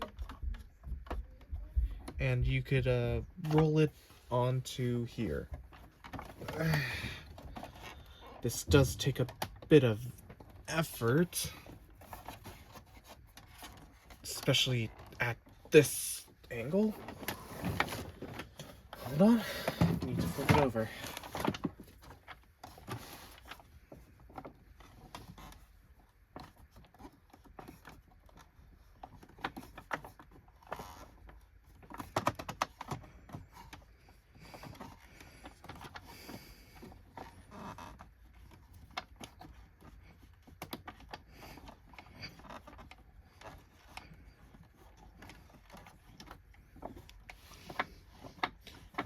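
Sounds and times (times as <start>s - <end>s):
hands handling plastic vacuum body: 5.4s - 49.0s.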